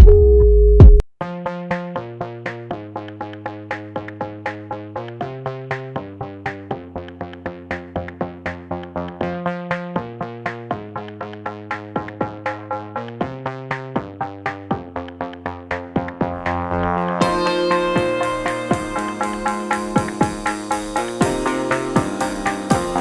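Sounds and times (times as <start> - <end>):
plucked synth background music: 0.0 - 23.0.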